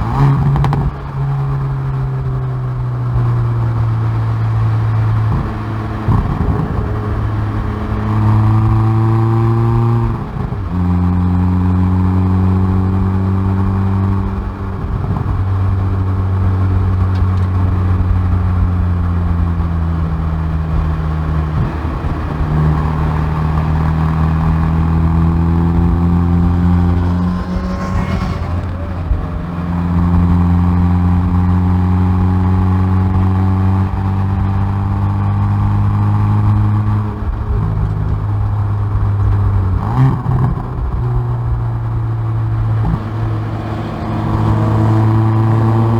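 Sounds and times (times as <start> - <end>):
car exhaust accelerating: 0.0 - 45.9.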